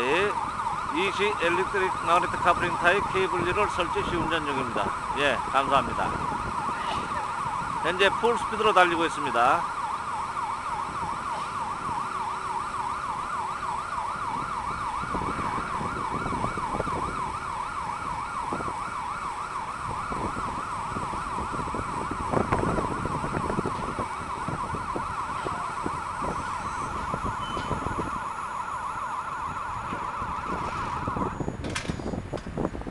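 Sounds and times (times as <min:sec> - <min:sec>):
crane warning siren warbling: 0:00.0 - 0:32.9.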